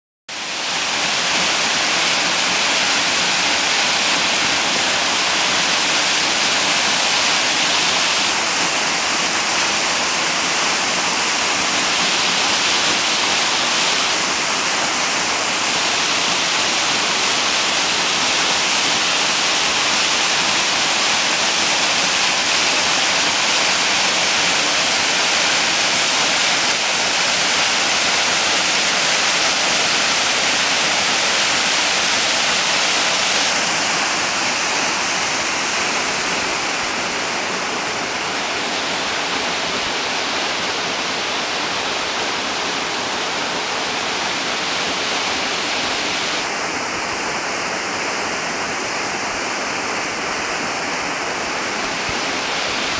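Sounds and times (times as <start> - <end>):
waterfall pouring over rock: 0.3 - 52.9.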